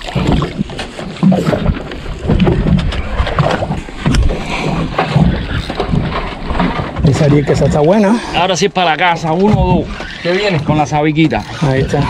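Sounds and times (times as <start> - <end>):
water slapping against boat hull: 0.0 - 12.0.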